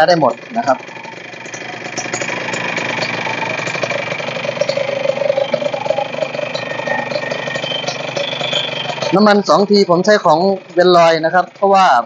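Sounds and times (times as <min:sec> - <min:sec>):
two-stroke engine idling: 0:00.0 - 0:12.0.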